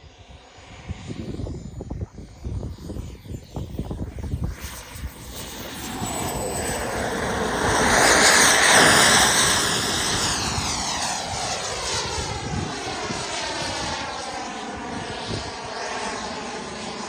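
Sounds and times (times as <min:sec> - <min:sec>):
model jet turbine flyby: 0:00.0 - 0:17.0.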